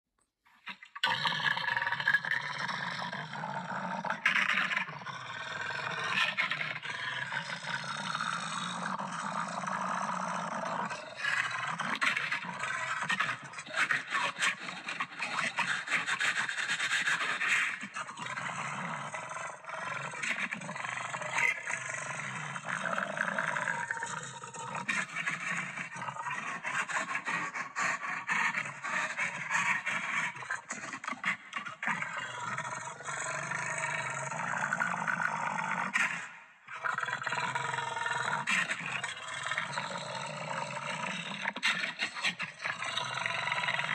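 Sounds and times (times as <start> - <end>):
beast-like growling and roaring: 1.0 - 43.9.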